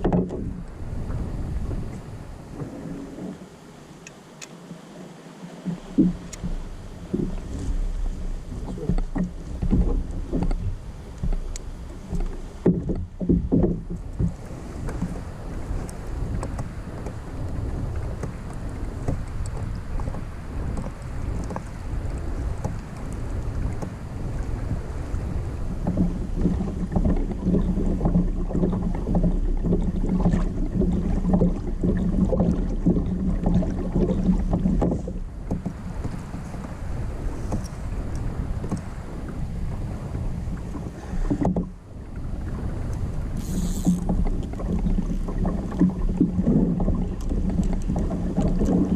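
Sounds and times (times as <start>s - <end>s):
water slapping against kayak hull: 0.0s - 4.6s, 5.5s - 48.9s
wind on microphone: 0.0s - 48.9s.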